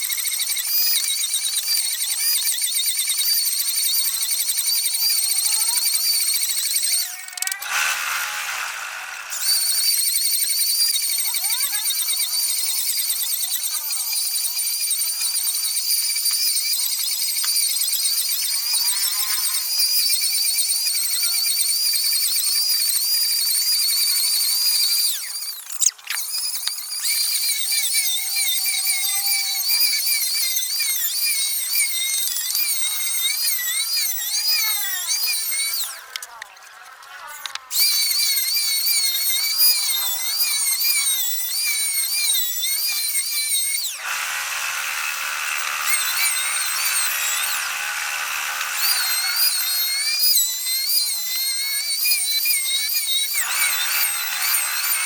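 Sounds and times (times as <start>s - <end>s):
power tool motor whine: 0.0s - 55.0s.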